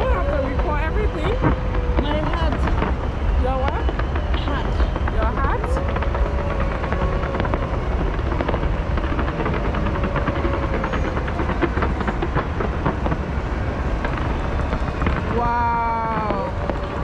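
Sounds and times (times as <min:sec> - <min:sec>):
crackling fireworks pops: 0:00.0 - 0:17.0
low rumble of fireworks explosions: 0:00.0 - 0:17.0.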